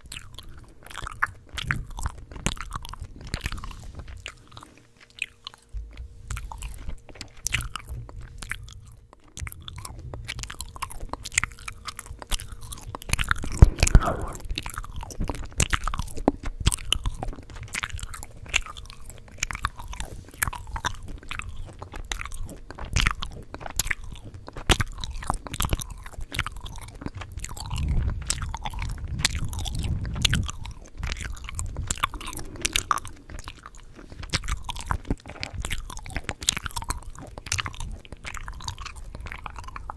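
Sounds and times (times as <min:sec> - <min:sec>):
chewing gum smacking: 0:00.0 - 0:39.9.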